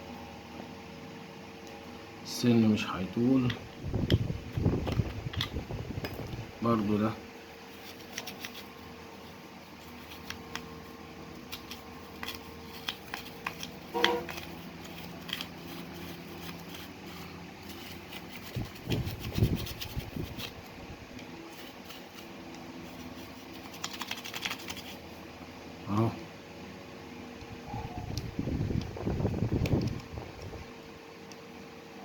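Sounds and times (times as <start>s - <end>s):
fan hum: 0.0s - 32.0s.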